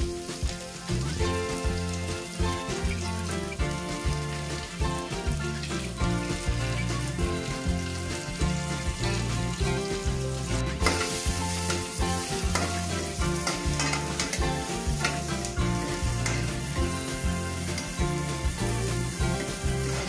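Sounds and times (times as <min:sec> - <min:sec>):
background music: 0:00.0 - 0:20.0
onions sizzling in butter: 0:00.0 - 0:20.0
metal spatula scraping wok: 0:02.2 - 0:20.0.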